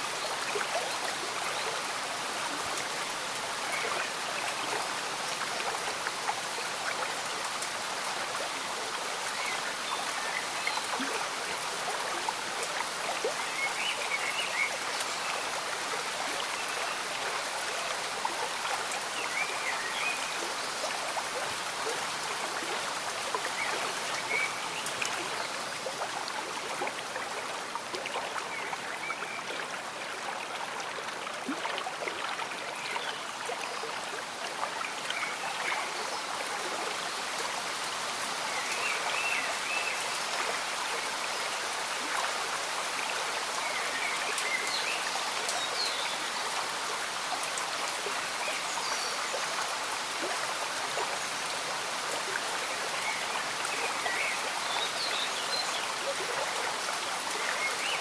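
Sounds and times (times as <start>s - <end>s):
gentle rain falling: 0.0s - 58.0s
stream bubbling and gurgling: 0.0s - 58.0s.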